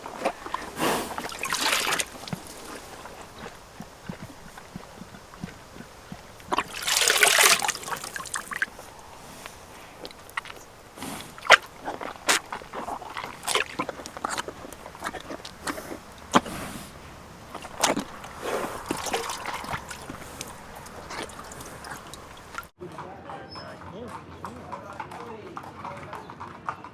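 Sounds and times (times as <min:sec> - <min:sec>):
hoof knocks and sloshes: 0:00.0 - 0:22.7
horse splashing in wet ground: 0:00.0 - 0:22.7.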